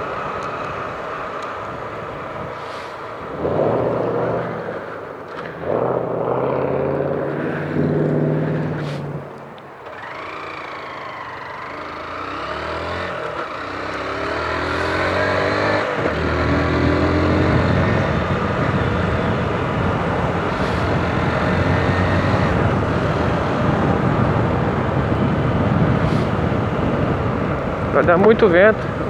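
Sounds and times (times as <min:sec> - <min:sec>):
wind rush on microphone: 0:00.0 - 0:09.6, 0:14.4 - 0:29.0
motorcycle accelerating: 0:00.0 - 0:29.0.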